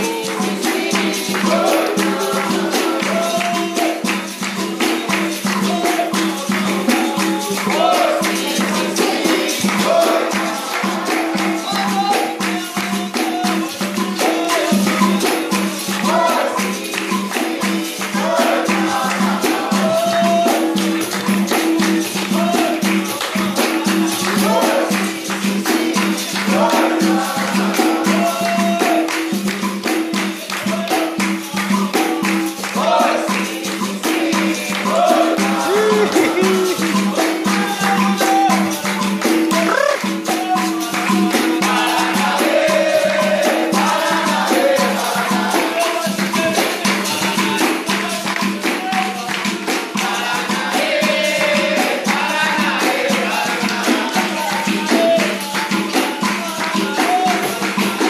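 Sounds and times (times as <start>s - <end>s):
tambourine jingles and rattling: 0.0s - 58.0s
voices singing: 0.0s - 58.0s.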